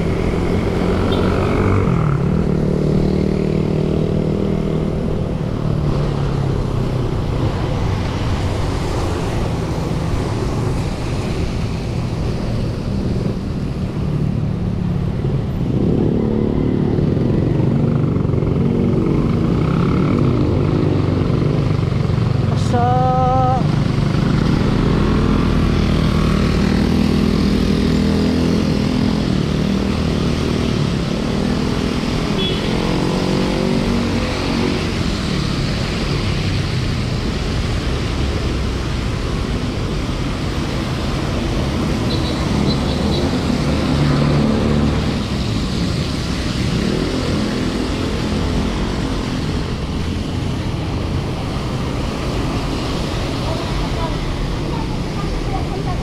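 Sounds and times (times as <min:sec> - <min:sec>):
car and motorcycle engines: 0:00.0 - 0:56.0.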